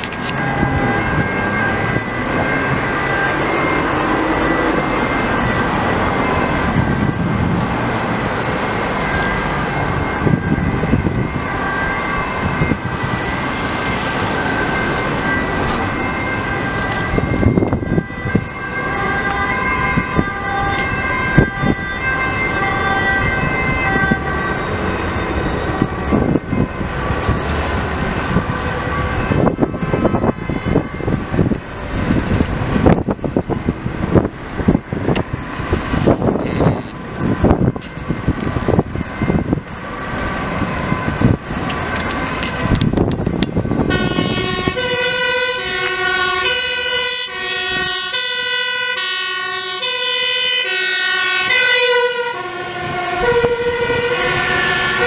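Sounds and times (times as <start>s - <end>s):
emergency vehicle sirens: 0.0s - 55.0s
road traffic rumble: 0.0s - 55.0s.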